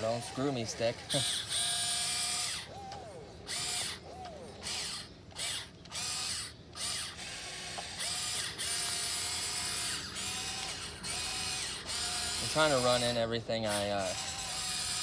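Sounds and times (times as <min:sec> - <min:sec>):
small electric motors whining: 0:00.0 - 0:15.0.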